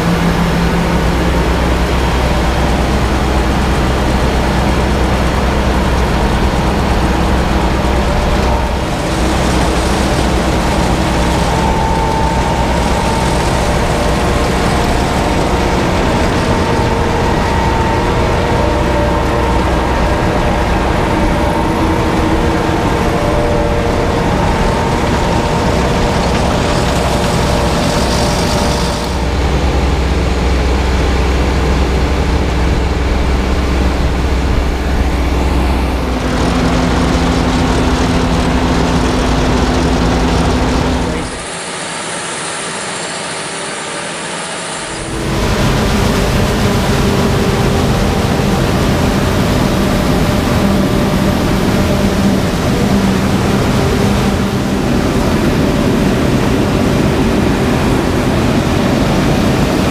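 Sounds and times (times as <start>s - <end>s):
machinery low rumble: 0.0s - 59.9s
tractor engines droning: 0.0s - 59.9s.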